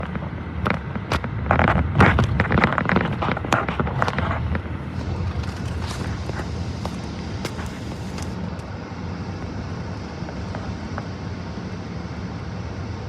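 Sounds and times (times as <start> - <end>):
train rumbling slowly: 0.0 - 13.0.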